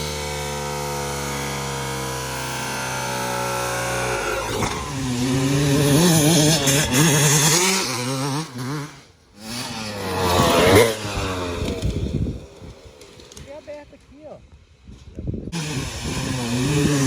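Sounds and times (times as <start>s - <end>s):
motorbike engine revving: 0.0s - 13.8s, 15.6s - 17.0s.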